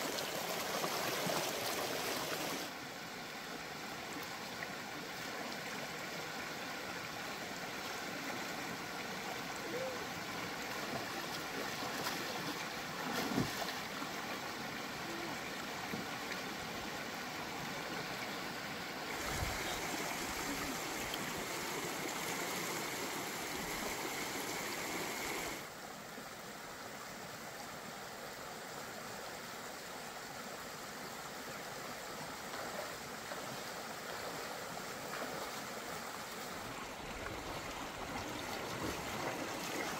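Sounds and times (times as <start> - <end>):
stream rushing over stones: 0.0 - 26.1, 27.2 - 39.9.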